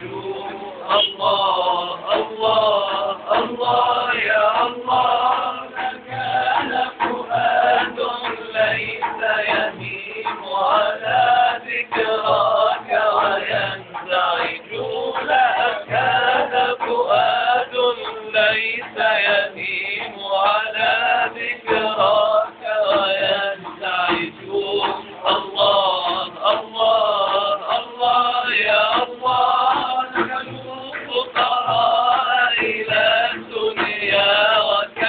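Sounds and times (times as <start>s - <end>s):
frame drum thuds: 0.0s - 35.0s
men singing ornamented melody: 0.0s - 35.0s.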